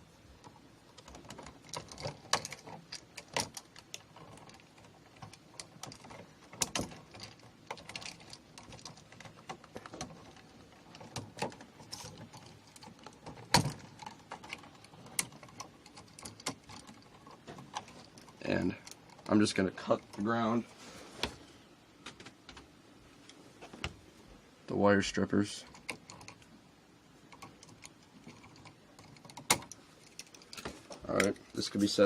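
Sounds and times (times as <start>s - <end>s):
clicks and rattles of wires and tools: 0.4s - 24.0s, 25.4s - 26.6s, 27.3s - 32.0s.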